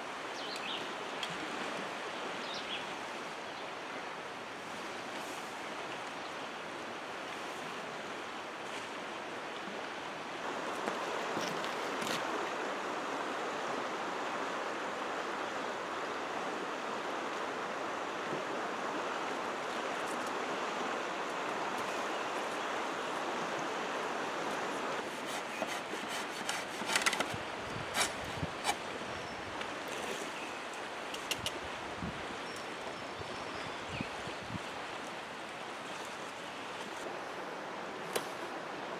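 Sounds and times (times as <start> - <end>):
creek flowing: 0.0 - 38.9.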